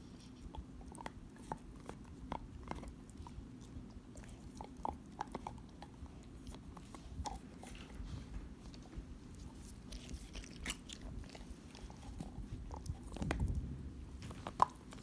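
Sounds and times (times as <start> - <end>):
dog chewing a toy: 0.0 - 15.0.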